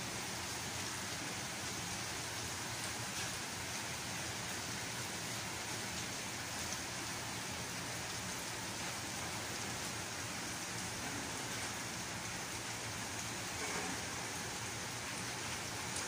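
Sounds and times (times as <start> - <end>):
rain on pavement: 0.0 - 16.0.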